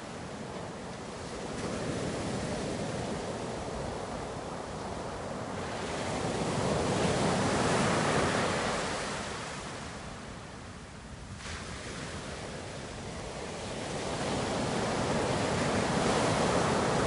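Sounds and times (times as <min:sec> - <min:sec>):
waves washing onto shore: 0:00.0 - 0:17.0.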